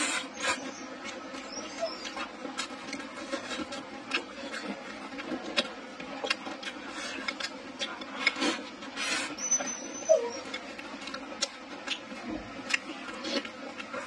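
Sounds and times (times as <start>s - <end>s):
wet chewing and lip smacks: 0.0s - 14.0s.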